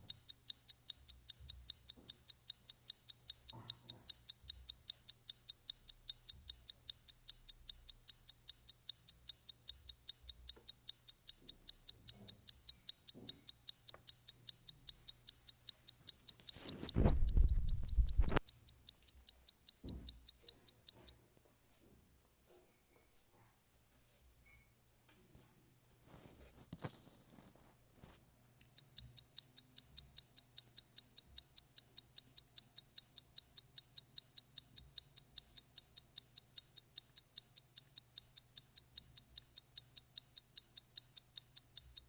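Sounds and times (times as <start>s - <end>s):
clock ticking: 0.0s - 21.2s, 28.6s - 42.0s.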